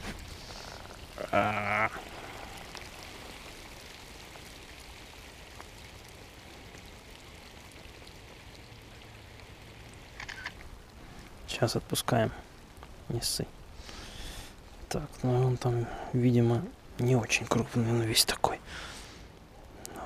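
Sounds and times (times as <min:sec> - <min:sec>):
light rain on lake water: 0:00.0 - 0:20.0.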